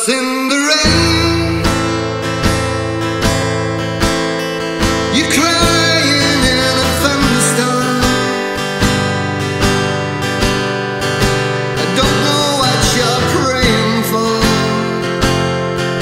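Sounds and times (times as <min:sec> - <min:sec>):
acoustic guitar strummed: 0:00.0 - 0:16.0.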